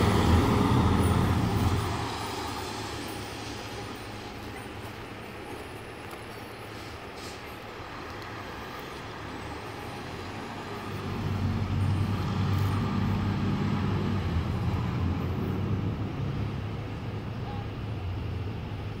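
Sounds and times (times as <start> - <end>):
diesel truck engine drone: 0.0 - 19.0.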